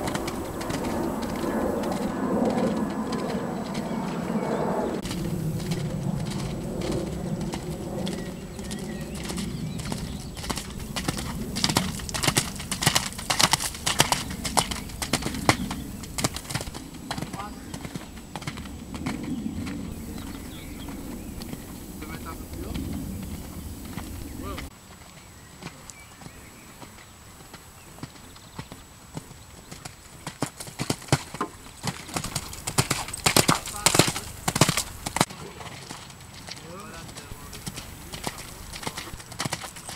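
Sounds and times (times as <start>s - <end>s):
horse hooves on wet sand: 0.0s - 39.9s.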